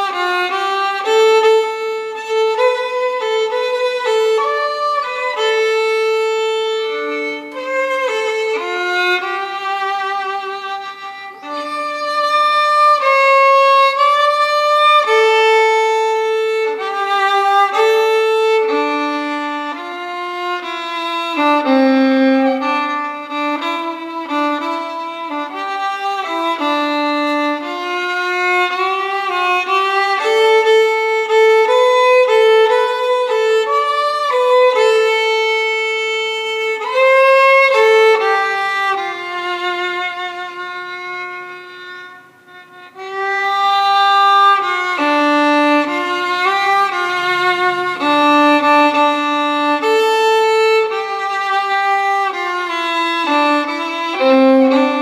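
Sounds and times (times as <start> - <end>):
solo violin melody: 0.0 - 55.0.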